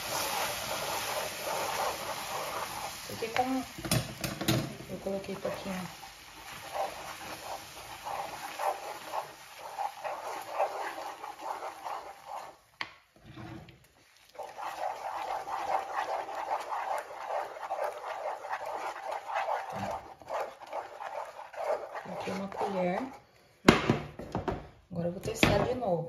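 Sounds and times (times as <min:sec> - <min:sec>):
wooden spoon scraping sticky wax: 0:00.0 - 0:03.8, 0:04.9 - 0:23.6.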